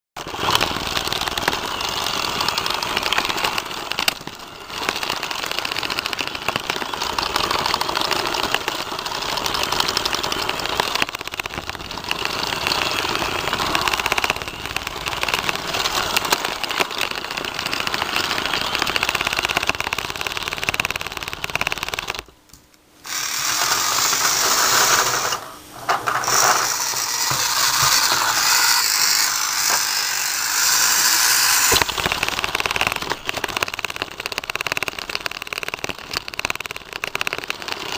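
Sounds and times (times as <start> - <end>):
toy monorail motor with rapid clicking: 0.2 - 22.4, 23.0 - 37.9.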